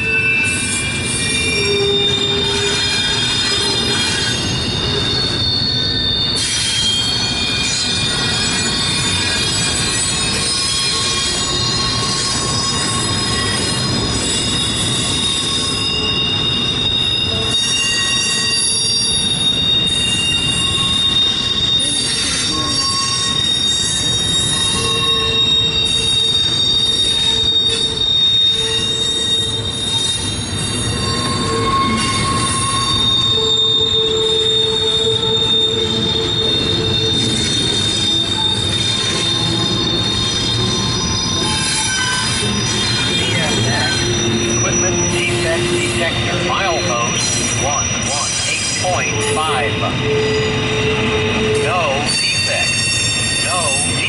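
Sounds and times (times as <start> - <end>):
low rumble of train cars: 0.0 - 54.0
train wheels squealing: 0.0 - 54.0.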